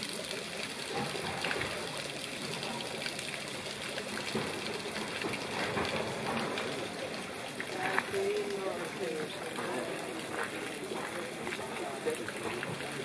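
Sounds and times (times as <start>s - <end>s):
waterfall splashing into pond: 0.0s - 13.0s.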